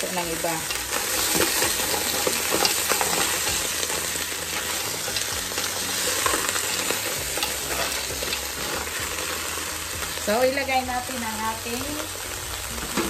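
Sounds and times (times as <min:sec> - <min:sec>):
crabs sizzling in a pot: 0:00.0 - 0:13.0.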